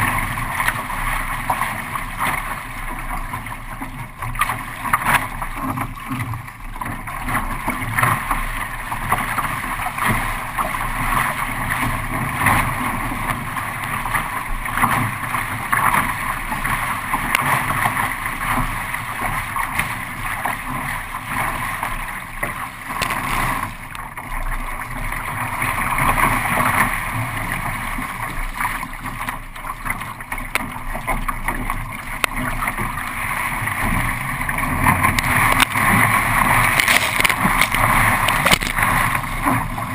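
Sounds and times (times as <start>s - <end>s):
water rushing around kayak: 0.0s - 39.9s.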